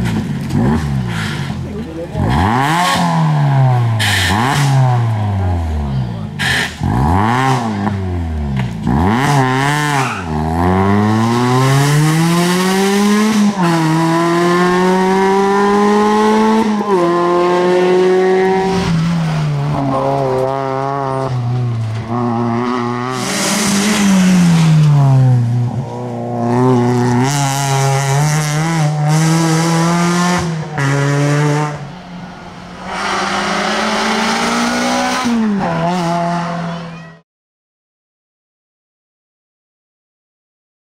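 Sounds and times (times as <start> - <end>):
rally car engine revving: 0.0 - 37.1.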